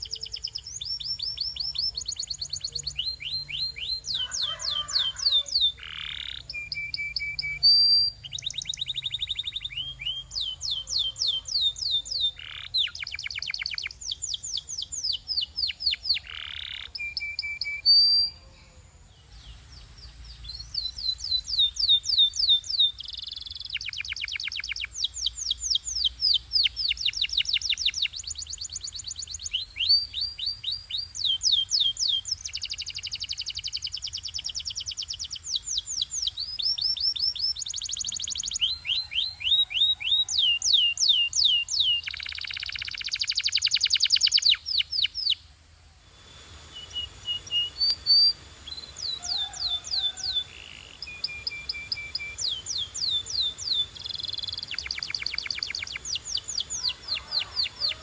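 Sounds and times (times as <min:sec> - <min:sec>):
canary singing trills: 0:00.0 - 0:45.5, 0:46.1 - 0:58.0.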